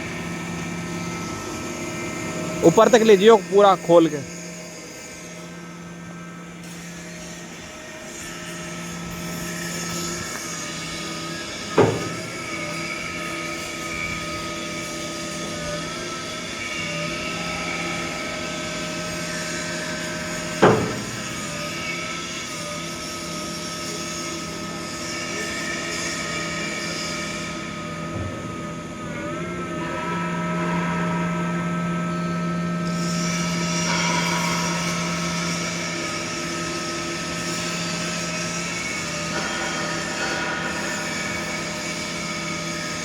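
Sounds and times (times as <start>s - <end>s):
electric motor and hydraulics whine: 0.0s - 43.0s.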